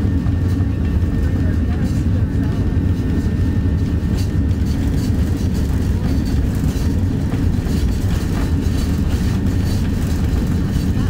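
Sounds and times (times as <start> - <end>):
rumble of engines and wheels: 0.0 - 11.0.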